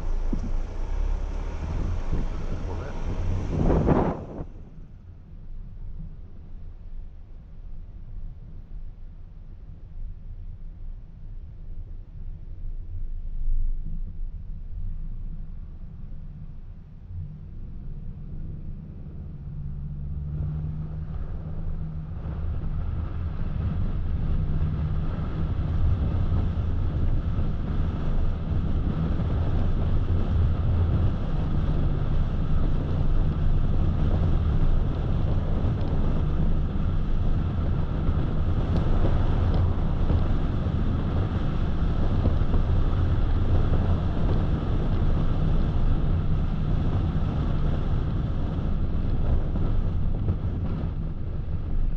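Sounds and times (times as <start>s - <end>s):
car engine and tyre drone: 0.0s - 7.0s, 12.9s - 51.9s
road and wind noise: 0.0s - 51.9s.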